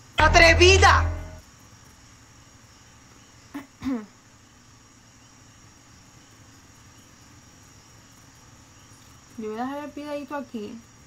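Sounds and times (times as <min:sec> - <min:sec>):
faint high-pitched whine: 0:00.0 - 0:11.0
low background hiss: 0:00.0 - 0:11.0.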